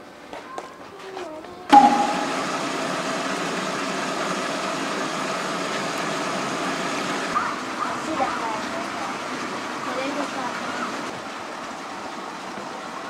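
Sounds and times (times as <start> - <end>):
hot water rushing into a bath: 1.7 - 13.0.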